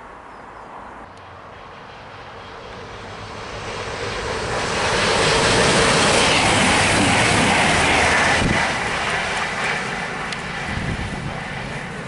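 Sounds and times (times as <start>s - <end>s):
diesel train passing at speed: 0.0s - 12.0s.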